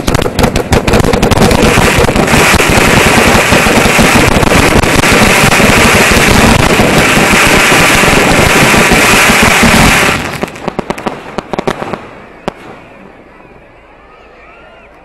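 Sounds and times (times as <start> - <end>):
firework crackling and hissing: 0.0 - 12.9.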